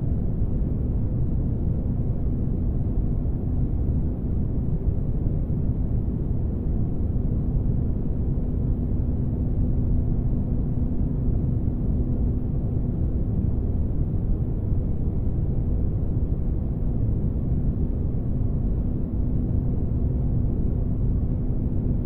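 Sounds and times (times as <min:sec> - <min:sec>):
faint constant hum: 0:00.0 - 0:22.0.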